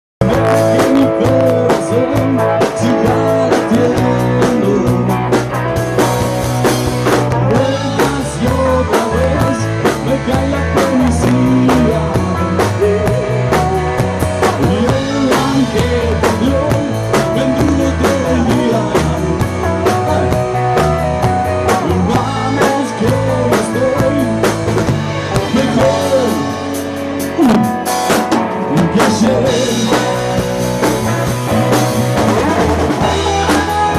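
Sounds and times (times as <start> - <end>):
rock song with drums and guitar: 0.2 - 33.9.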